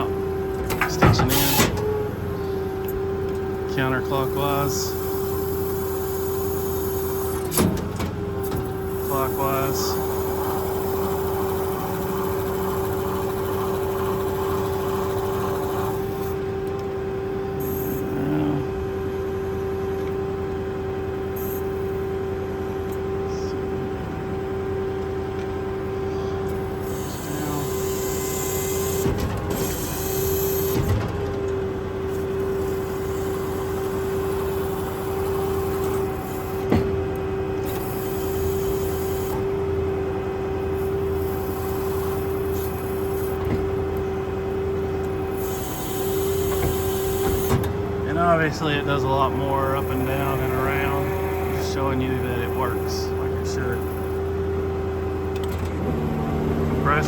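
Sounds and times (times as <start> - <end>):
crane clunks: 0.0 - 57.0
diesel engine running: 0.0 - 57.0
hydraulic pump whine: 0.0 - 57.0.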